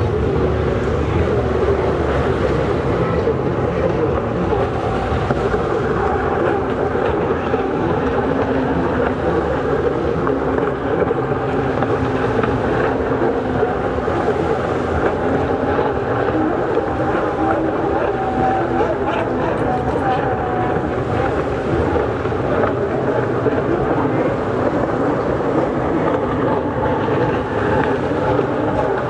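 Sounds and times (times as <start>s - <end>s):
jet ski engines droning: 0.0s - 29.0s
wind buffeting microphone: 0.0s - 29.0s.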